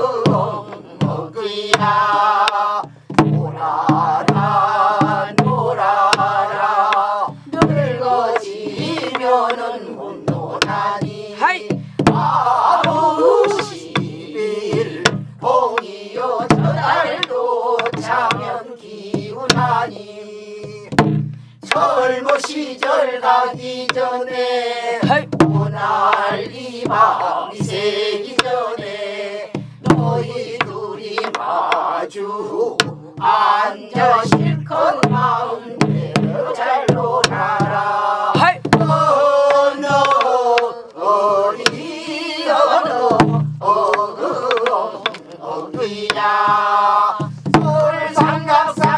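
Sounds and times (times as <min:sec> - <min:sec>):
barrel drum strokes: 0:00.0 - 0:20.0, 0:20.6 - 0:24.4, 0:25.0 - 0:48.9
group singing folk song: 0:00.0 - 0:48.9.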